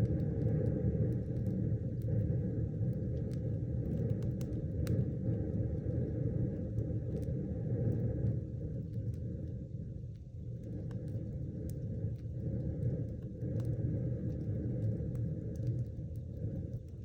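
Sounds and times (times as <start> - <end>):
burning wood crackling and popping: 0.0 - 17.0
fire flames rumbling: 0.0 - 17.0.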